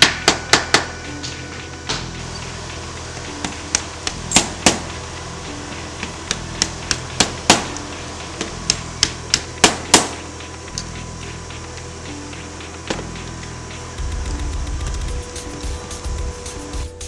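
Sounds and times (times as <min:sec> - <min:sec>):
mallet tapping metal blades: 0:00.0 - 0:17.0.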